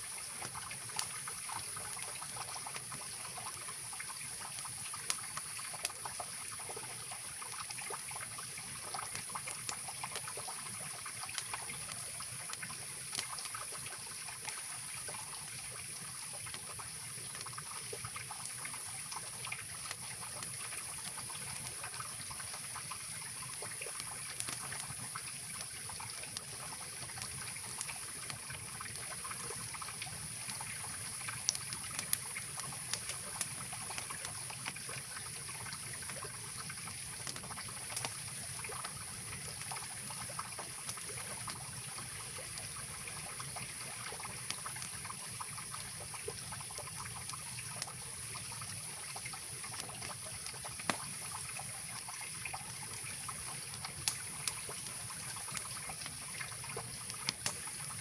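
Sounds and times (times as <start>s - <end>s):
campfire crackling and popping: 0.1s - 58.0s.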